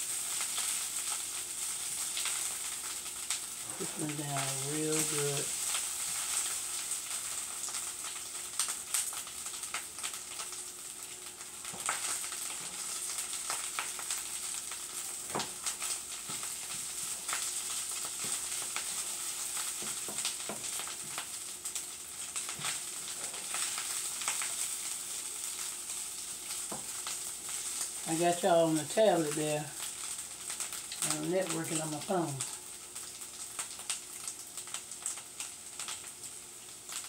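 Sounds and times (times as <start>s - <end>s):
hash sizzling in a frying pan: 0.0s - 37.0s.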